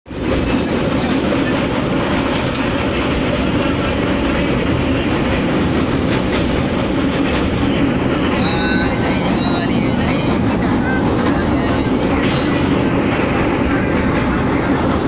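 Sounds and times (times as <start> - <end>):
clickety-clack over rail joints: 0.1 - 15.0
train wheels rumbling on rails: 0.1 - 15.0.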